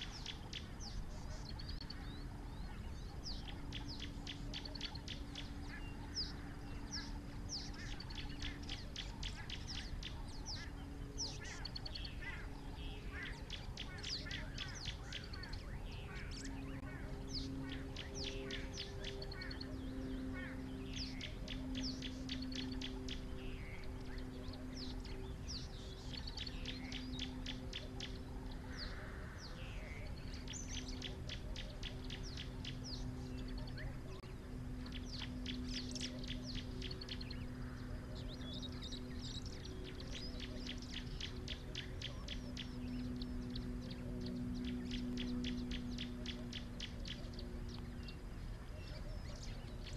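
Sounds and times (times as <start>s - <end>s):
birds chirping and trilling: 0.0s - 49.9s
low steady hum: 0.0s - 49.9s.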